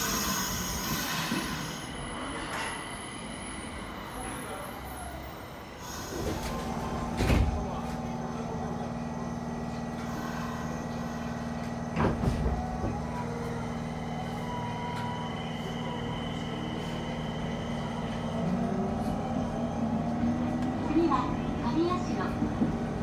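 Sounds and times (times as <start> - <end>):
train interior hum: 0.0 - 23.0.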